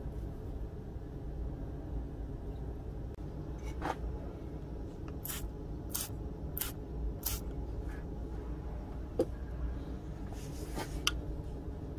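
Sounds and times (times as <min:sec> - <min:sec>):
low background rumble: 0:00.0 - 0:11.9.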